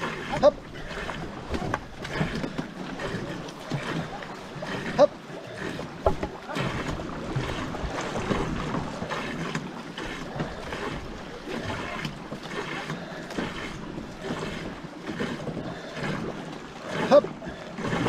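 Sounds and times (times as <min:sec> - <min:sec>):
paddle strokes splashing: 0:00.0 - 0:18.0
water rushing along hull: 0:00.0 - 0:18.0.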